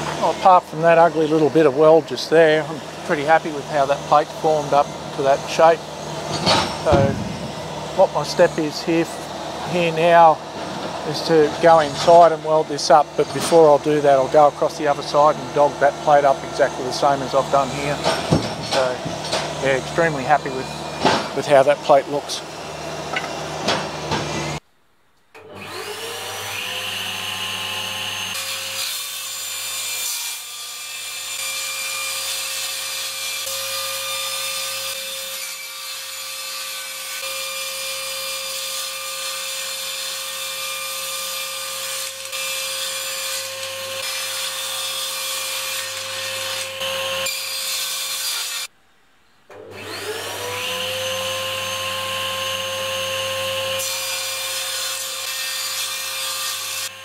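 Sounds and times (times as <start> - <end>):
table saw cutting aluminium: 0.0 - 24.6, 25.4 - 48.7, 49.5 - 57.0.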